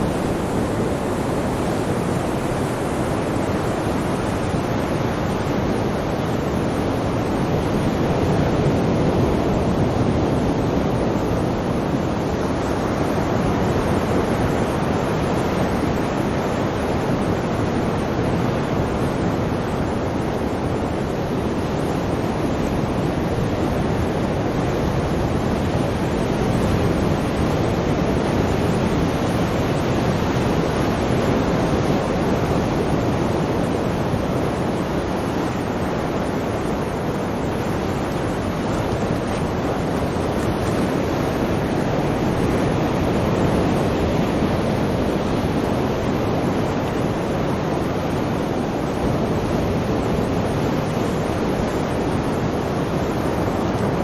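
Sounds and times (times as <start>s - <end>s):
sea waves surf: 0.0s - 54.0s.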